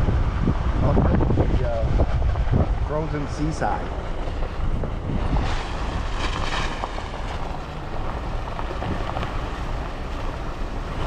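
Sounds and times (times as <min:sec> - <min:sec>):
car tyres and engine rumble: 0:00.0 - 0:11.0
wind buffeting microphone: 0:00.0 - 0:11.0.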